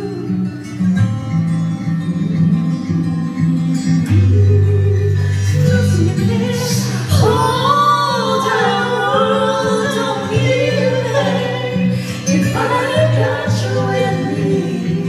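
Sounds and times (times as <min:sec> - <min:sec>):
instrumental accompaniment with bass: 0:00.0 - 0:15.0
people singing into microphones: 0:02.0 - 0:15.0.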